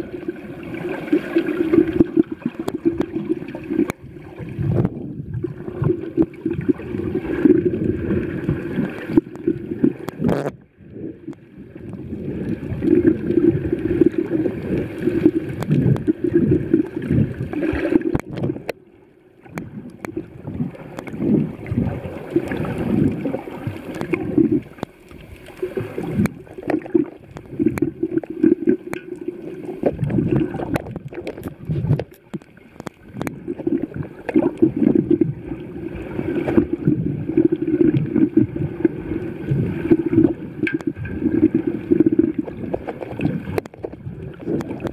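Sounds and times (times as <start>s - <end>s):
muffled water sloshing and gurgling: 0.0s - 44.9s.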